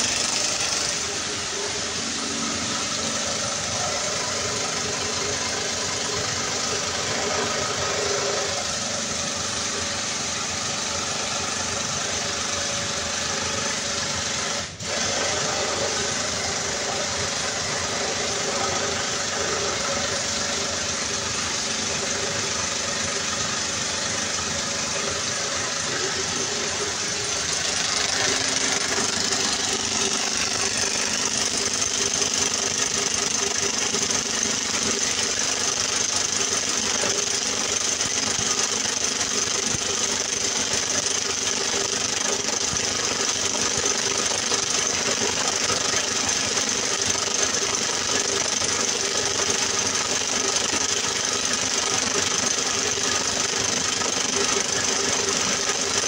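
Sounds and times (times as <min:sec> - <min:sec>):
pump motor rattling hum: 0:00.0 - 0:56.0.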